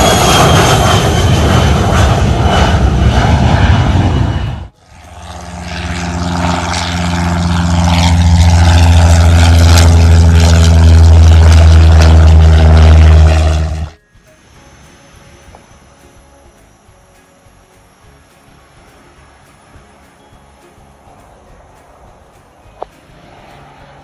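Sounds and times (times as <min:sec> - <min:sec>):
propeller plane engine drone: 0:00.0 - 0:24.0.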